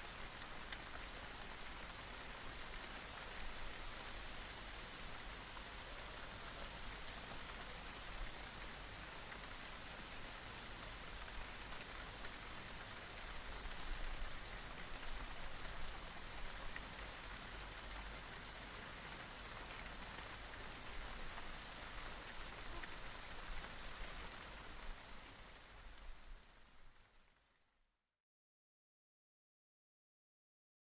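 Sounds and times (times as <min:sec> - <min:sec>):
light rain pattering: 0:00.0 - 0:27.9.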